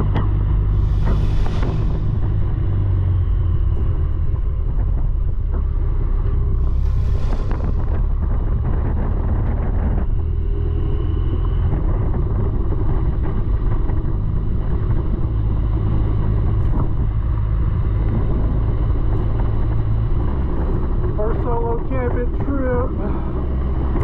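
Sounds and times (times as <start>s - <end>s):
motorcycle engine running: 0.0s - 24.0s
road noise: 0.0s - 24.0s.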